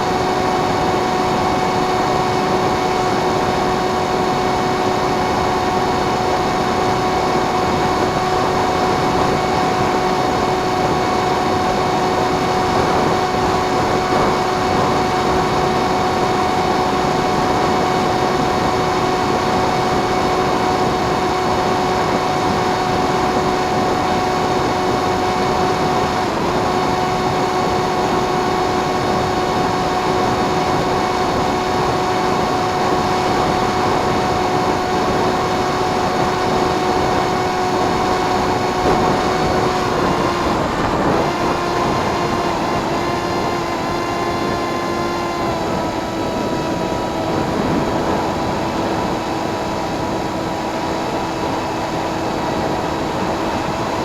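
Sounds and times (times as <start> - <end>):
model plane motor whining: 0.0 - 54.0
wind noise: 0.0 - 54.0.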